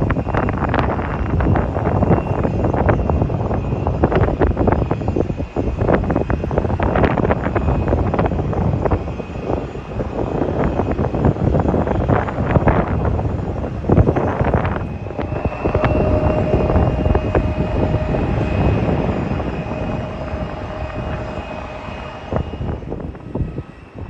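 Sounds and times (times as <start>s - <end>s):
jet engines whining: 0.0s - 24.0s
wind buffeting microphone: 0.0s - 24.0s.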